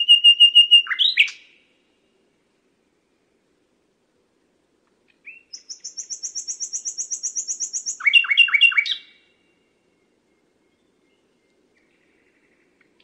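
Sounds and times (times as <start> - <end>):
nightingale singing: 0.0 - 3.5, 5.0 - 13.0.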